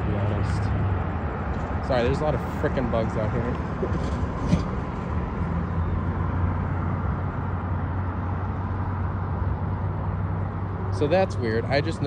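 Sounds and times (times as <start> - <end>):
cars rushing past: 0.0 - 12.0
vehicle engines humming: 0.0 - 12.0.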